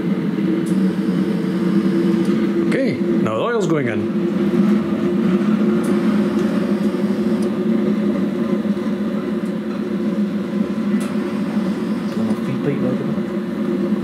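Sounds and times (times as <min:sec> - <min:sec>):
blower fan humming: 0:00.0 - 0:14.0
burner flame roaring: 0:00.0 - 0:14.0.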